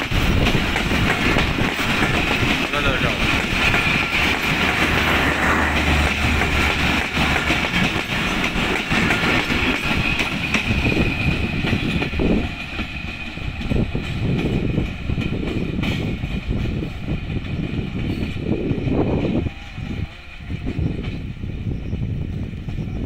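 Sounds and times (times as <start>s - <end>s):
train wheels clattering: 0.0s - 22.8s.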